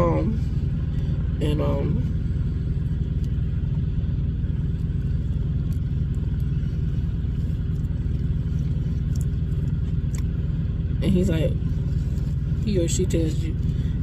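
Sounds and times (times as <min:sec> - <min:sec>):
truck engine rumble inside cab: 0:00.0 - 0:14.0.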